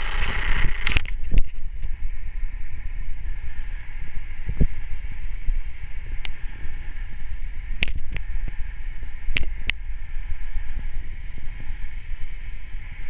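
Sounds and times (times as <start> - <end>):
model helicopter whine: 0.0 - 13.0
wind buffeting microphone: 0.0 - 13.0.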